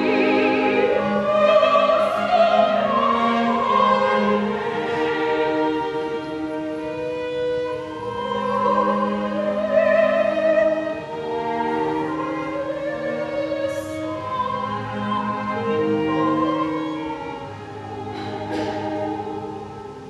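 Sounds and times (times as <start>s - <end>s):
instrumental accompaniment: 0.0s - 20.0s
opera singer singing: 0.0s - 20.0s.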